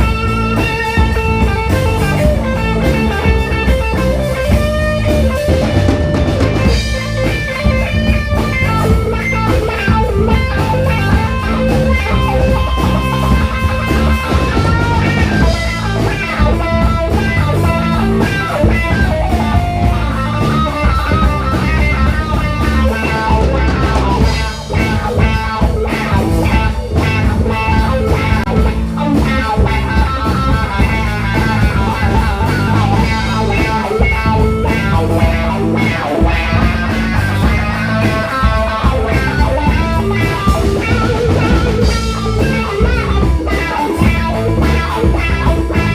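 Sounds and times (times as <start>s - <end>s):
bass guitar: 0.0s - 45.9s
drum kit: 0.0s - 45.9s
electric guitar lines: 0.0s - 45.9s.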